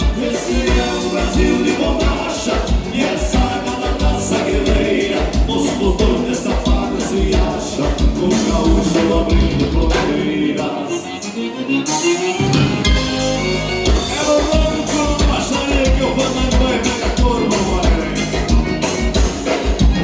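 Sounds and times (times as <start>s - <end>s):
person singing: 0.0s - 12.6s, 13.8s - 19.7s
live dance band playing: 0.0s - 20.0s.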